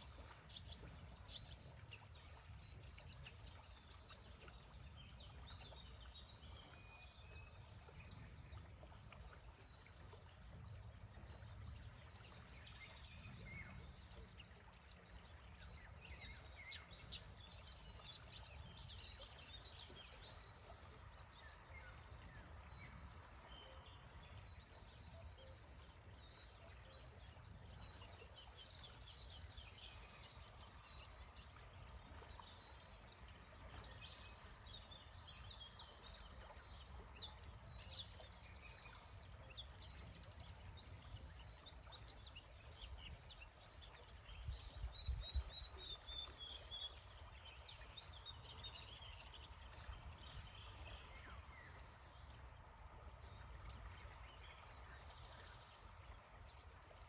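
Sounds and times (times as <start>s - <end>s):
faint songbirds chirping: 0.0s - 57.0s
low river rumble: 0.0s - 57.0s.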